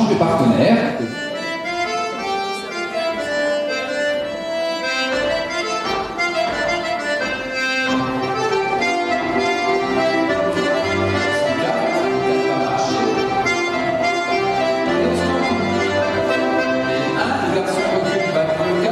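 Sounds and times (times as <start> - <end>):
accordion playing polka tune: 0.0 - 18.9.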